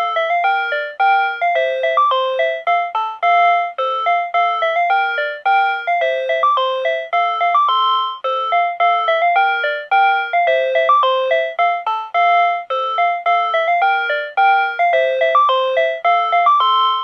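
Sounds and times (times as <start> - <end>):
electronic annunciator melody: 0.0 - 17.0.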